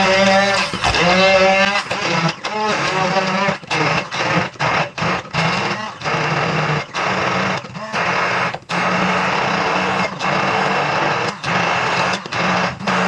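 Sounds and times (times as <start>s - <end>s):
electric blender grinding: 0.0s - 13.0s.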